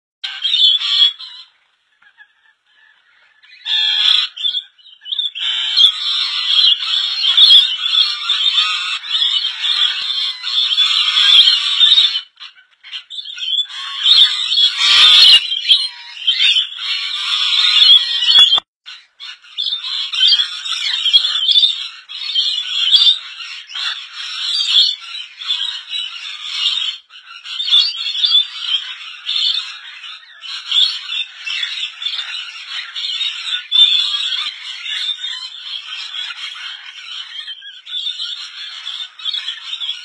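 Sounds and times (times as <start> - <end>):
lorikeets chattering and screeching: 0.2 - 40.0.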